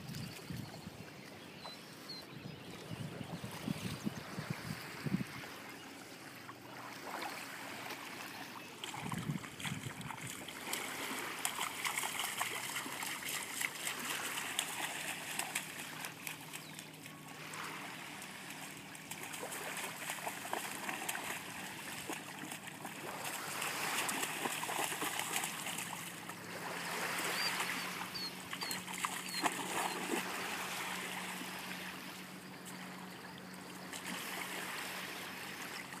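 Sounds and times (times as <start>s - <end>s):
splashing in shallow water: 3.4s - 36.0s
small waves washing on shore: 4.2s - 36.0s.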